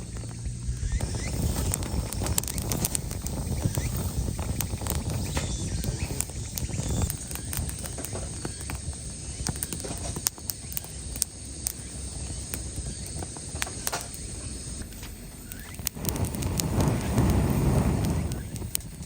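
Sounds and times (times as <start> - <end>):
campfire crackling: 0.0 - 19.0
sharp pops of fire: 0.0 - 19.0.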